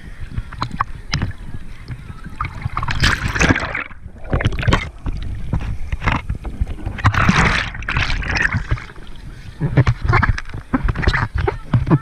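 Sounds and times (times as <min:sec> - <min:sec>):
seawater splashing and sloshing: 0:00.0 - 0:12.0.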